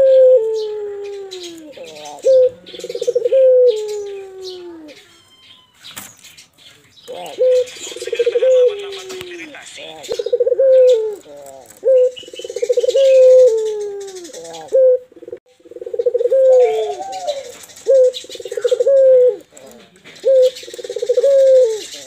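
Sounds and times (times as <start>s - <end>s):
doves cooing: 0.0s - 6.1s, 7.0s - 22.0s.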